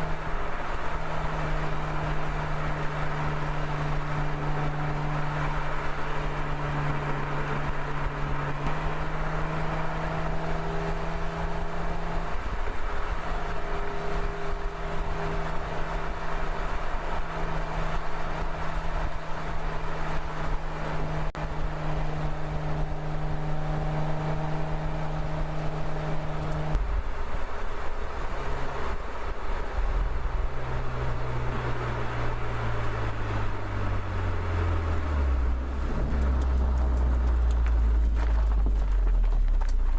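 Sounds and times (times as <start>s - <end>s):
car engine while driving: 0.0s - 39.9s
road noise: 0.0s - 39.9s.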